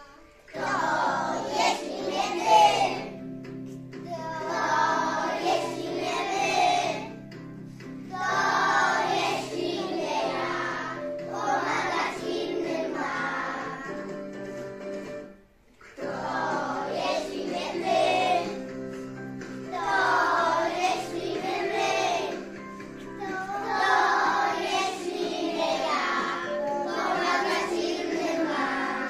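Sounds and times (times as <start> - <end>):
children singing: 0.0 - 3.2, 4.1 - 7.2, 8.1 - 14.1, 15.9 - 18.7, 19.6 - 29.0
instrumental accompaniment: 0.0 - 29.0.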